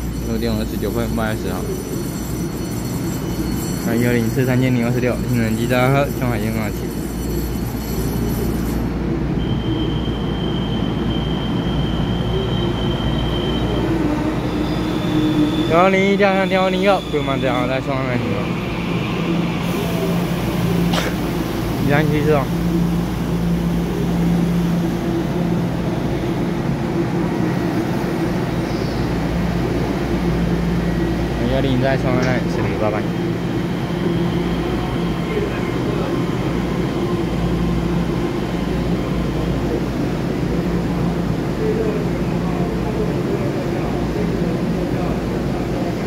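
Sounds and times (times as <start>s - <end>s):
high steady squeal: 0.0s - 20.9s, 21.5s - 41.9s
train rumbling into station: 0.0s - 46.0s.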